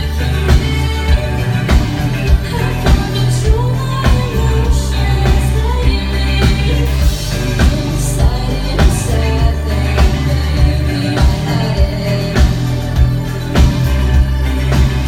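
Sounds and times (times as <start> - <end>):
electric bass guitar: 0.0 - 15.0
steady drum beat: 0.0 - 15.0
woman singing lead vocal: 0.0 - 15.0.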